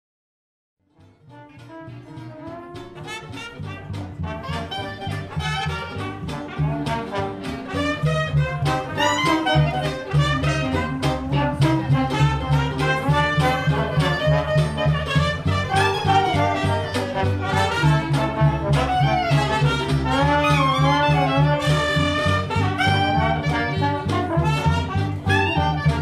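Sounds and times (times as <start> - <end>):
trombone: 0.9 - 26.0
trumpet: 0.9 - 26.0
clarinet: 1.0 - 26.0
low bass line: 1.0 - 26.0.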